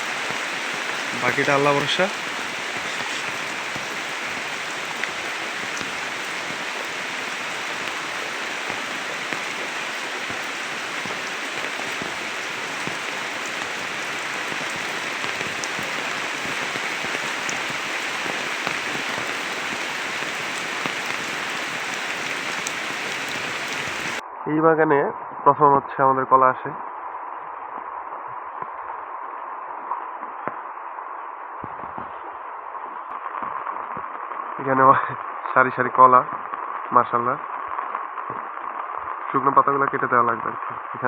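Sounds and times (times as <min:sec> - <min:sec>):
steady rain falling: 0:00.0 - 0:24.2, 0:27.8 - 0:41.0.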